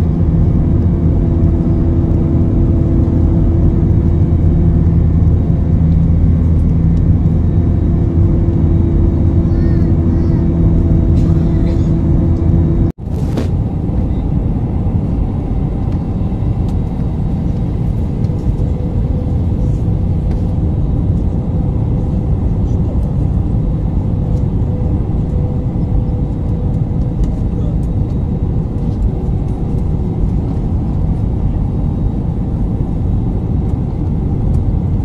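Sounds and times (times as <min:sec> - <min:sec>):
humming engine tones: 0:00.0 - 0:35.0
jet cabin engine roar: 0:00.0 - 0:35.0.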